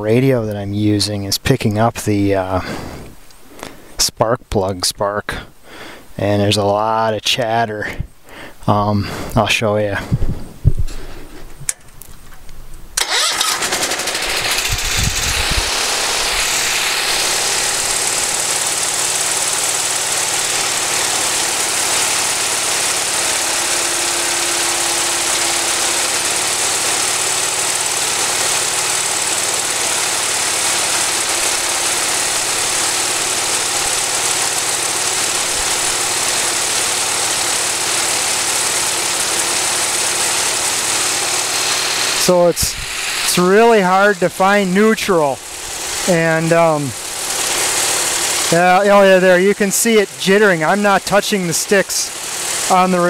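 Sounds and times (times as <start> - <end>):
tractor engine starting and running: 0.0 - 5.5, 6.1 - 53.0.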